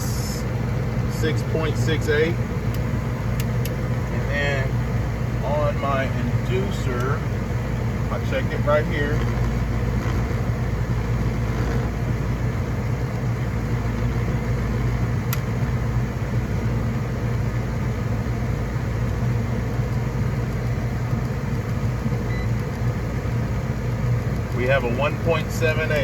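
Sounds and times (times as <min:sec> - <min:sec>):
furnace blower hum: 0:00.0 - 0:26.0.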